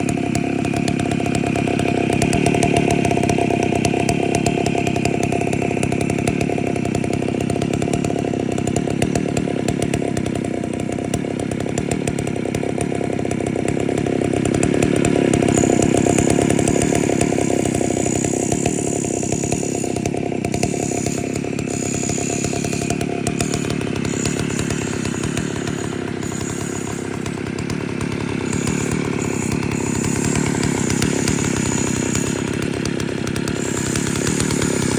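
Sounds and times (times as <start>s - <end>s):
chainsaw running: 0.0s - 34.9s.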